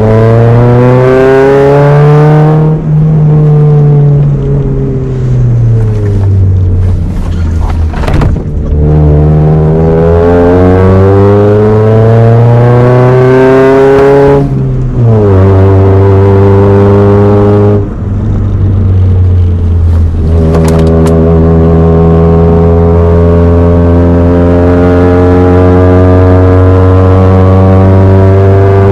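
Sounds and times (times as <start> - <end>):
car engine accelerating: 0.0 - 28.9.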